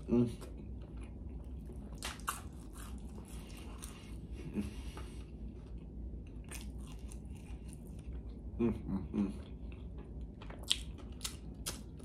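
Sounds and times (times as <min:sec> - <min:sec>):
low steady hum: 0:00.0 - 0:12.0
person chewing and crunching food: 0:00.0 - 0:12.0.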